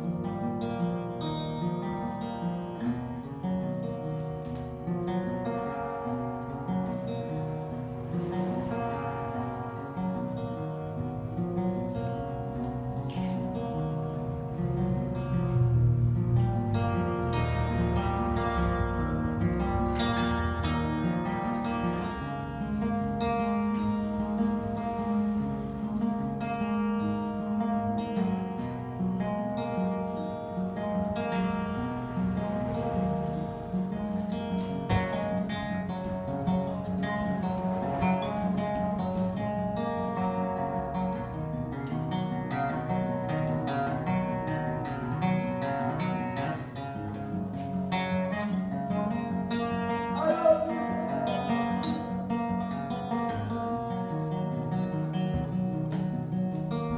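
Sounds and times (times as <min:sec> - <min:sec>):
acoustic guitar: 0:00.0 - 0:56.9.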